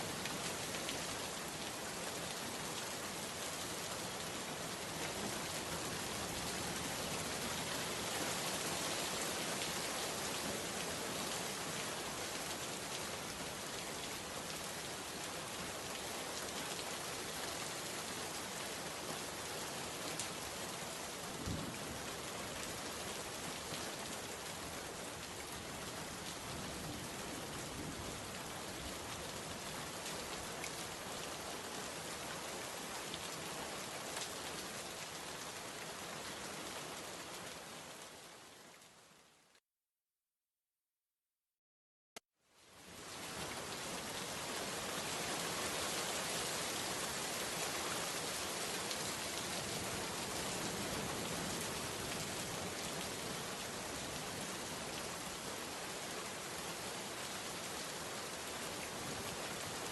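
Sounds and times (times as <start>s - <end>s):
steady rain: 0.0s - 39.6s, 42.4s - 59.9s.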